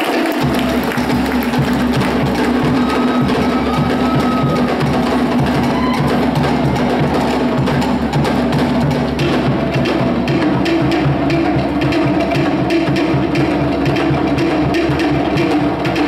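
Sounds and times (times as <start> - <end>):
wooden slit drums beating: 0.0 - 16.0
deep drum: 0.4 - 16.0.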